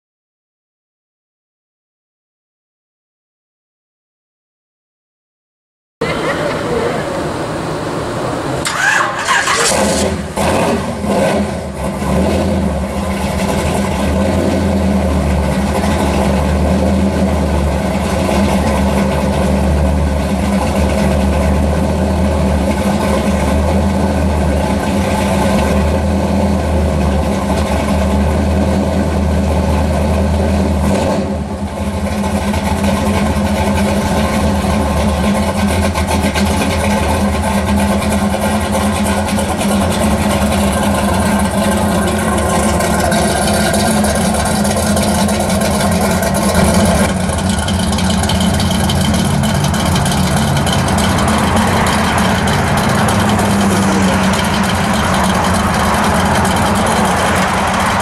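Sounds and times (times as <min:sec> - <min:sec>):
car engine idling: 0:06.0 - 0:58.0
car engine starting with bangs: 0:06.0 - 0:58.0.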